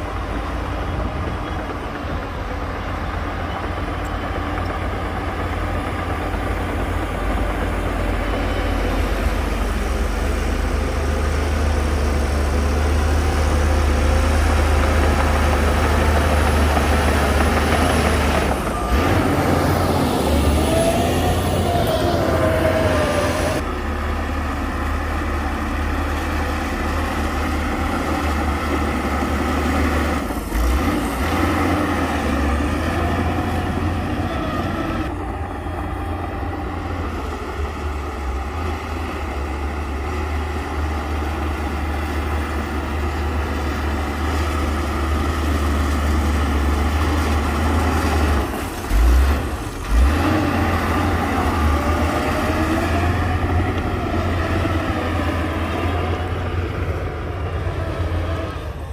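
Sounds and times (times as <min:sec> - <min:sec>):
heavy diesel engine rumbling: 0:00.0 - 0:58.9.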